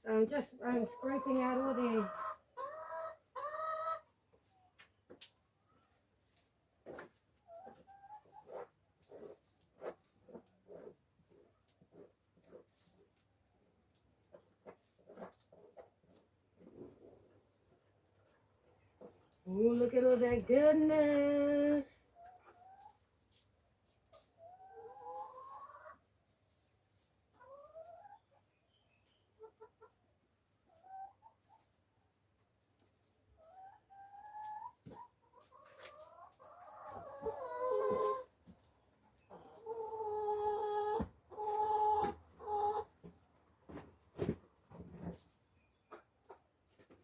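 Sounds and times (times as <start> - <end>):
hens clucking: 0.1 - 47.0.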